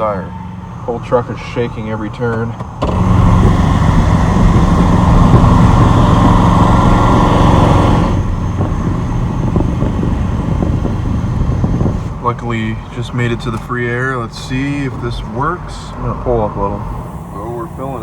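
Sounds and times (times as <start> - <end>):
road and tire noise: 0.0 - 18.0
truck engine running: 0.0 - 18.0.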